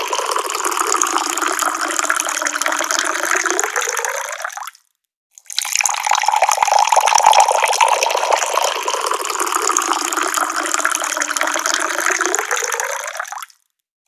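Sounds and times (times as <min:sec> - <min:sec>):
water running from a tap: 0:00.0 - 0:04.5, 0:05.4 - 0:13.4.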